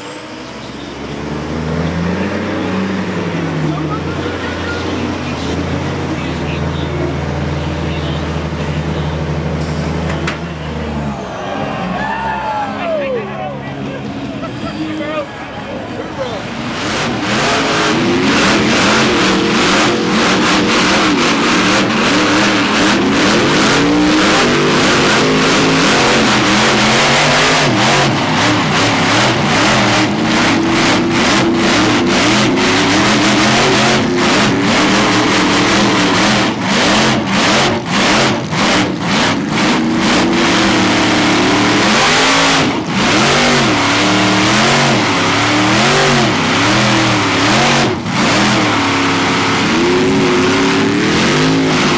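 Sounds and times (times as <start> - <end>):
off-road truck engines revving: 0.0 - 51.9.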